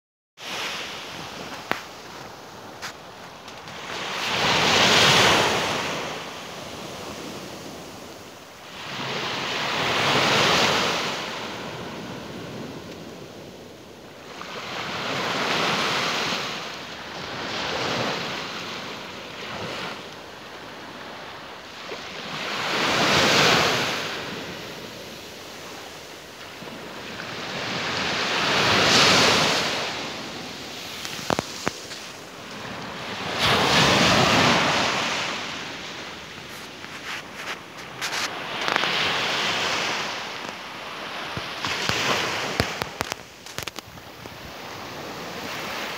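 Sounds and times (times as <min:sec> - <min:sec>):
small waves breaking on shore: 0:00.4 - 0:45.9.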